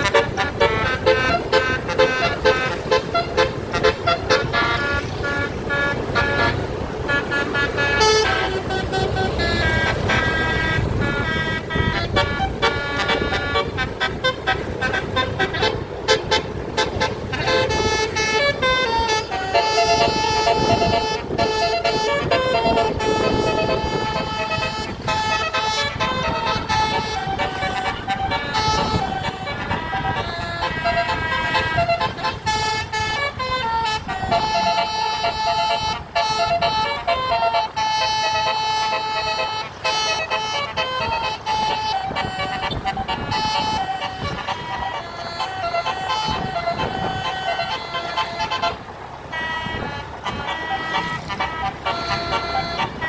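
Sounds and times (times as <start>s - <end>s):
bus engine and road rumble: 0.0s - 53.0s
bus musical air horn melody: 0.0s - 53.0s.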